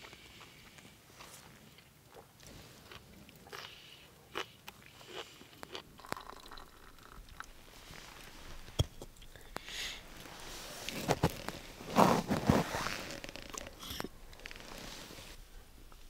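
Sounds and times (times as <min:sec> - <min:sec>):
crunchy chewing: 0:00.0 - 0:14.9.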